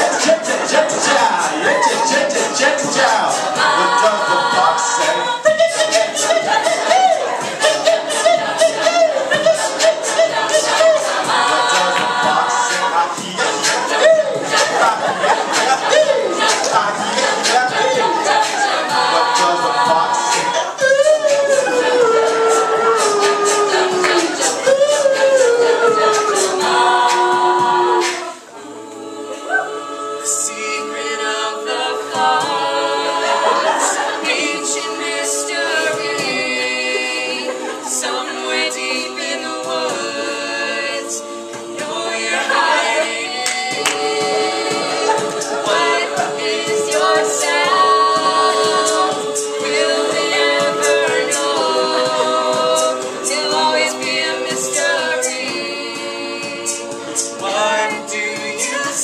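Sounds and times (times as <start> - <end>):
percussive beat: 0.0 - 28.4, 32.0 - 59.0
a cappella group singing: 0.0 - 59.0.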